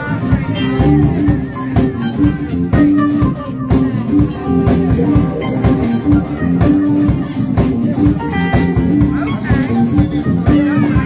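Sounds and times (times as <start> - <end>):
drum kit beat: 0.0 - 11.0
guitar notes: 0.0 - 11.0.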